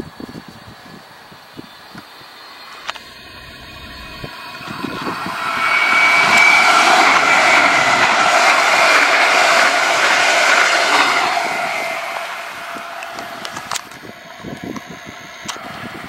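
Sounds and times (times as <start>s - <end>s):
steady high whine: 2.3s - 16.0s
electric train passing: 2.6s - 16.0s
wheels running on rails: 2.8s - 16.0s.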